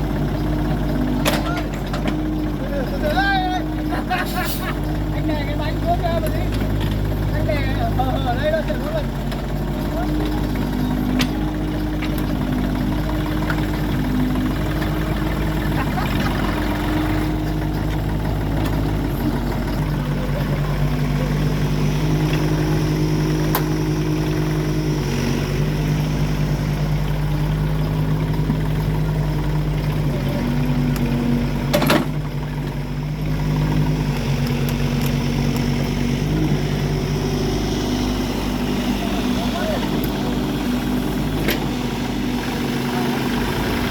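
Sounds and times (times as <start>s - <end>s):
farm machinery engine revving: 0.0s - 43.9s.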